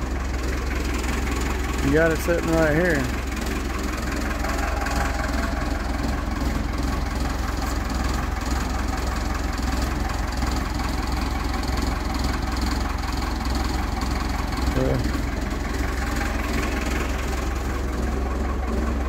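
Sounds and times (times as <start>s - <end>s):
forklift engine idling: 0.0s - 19.0s.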